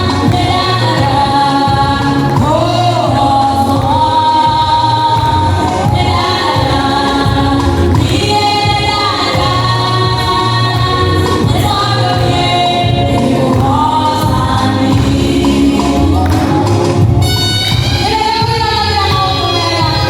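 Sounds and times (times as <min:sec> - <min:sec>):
choir singing gospel song: 0:00.0 - 0:20.0
musical backing: 0:00.0 - 0:20.0.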